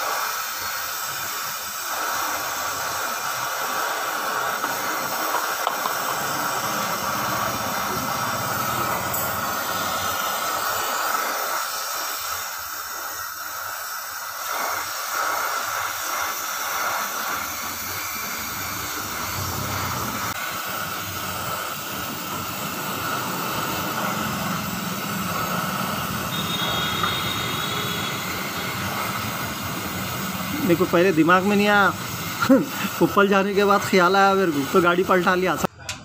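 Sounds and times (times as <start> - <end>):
welding torch flame hissing: 0.0 - 35.7.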